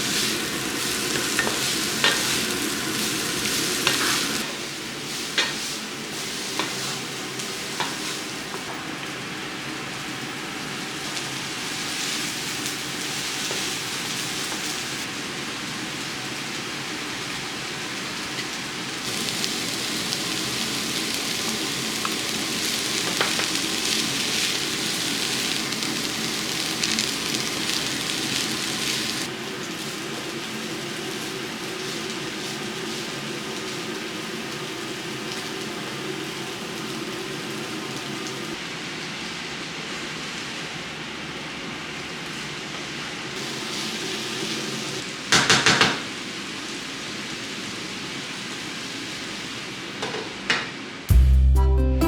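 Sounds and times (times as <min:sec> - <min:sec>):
vegetables sizzling in frying pan: 0:00.0 - 0:51.0.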